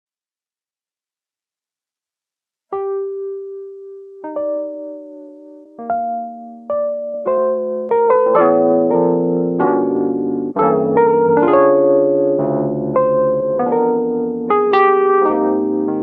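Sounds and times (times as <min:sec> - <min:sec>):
electric piano chords: 0:02.7 - 0:16.0.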